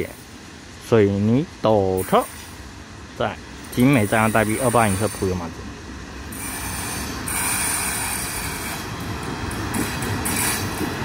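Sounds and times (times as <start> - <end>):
high hiss: 0.0 - 5.5, 6.2 - 11.0
freight train wheels rumbling: 0.0 - 11.0.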